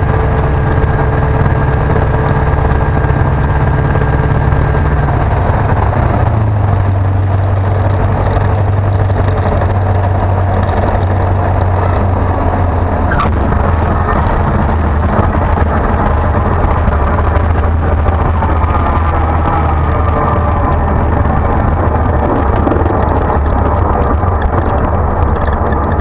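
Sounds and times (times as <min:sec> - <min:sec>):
light aircraft engine and propeller: 0:00.0 - 0:26.0.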